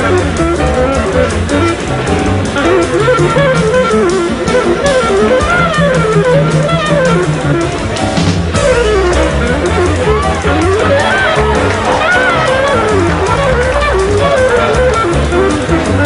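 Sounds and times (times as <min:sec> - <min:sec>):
bass line: 0:00.0 - 0:16.0
up-tempo jazz melody: 0:00.0 - 0:16.0.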